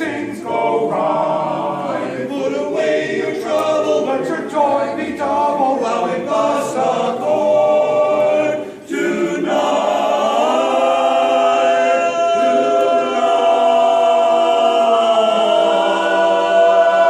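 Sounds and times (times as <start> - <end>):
a cappella close harmony singing: 0.0 - 17.0.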